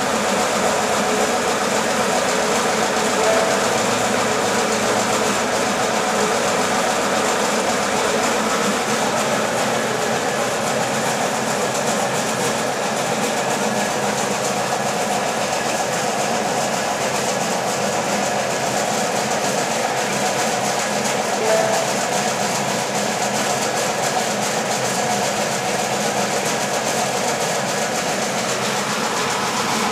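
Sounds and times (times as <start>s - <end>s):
sieve machine running: 0.0s - 29.9s.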